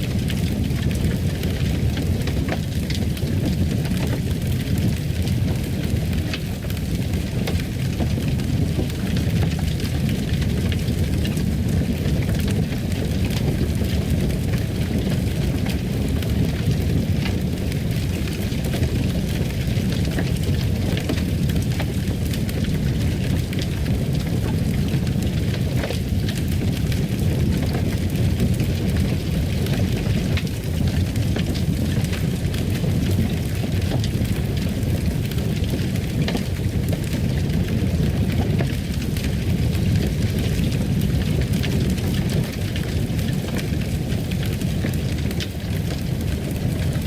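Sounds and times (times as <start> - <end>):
fire burning with low rumble: 0.0 - 47.0
fire crackling: 0.0 - 47.0.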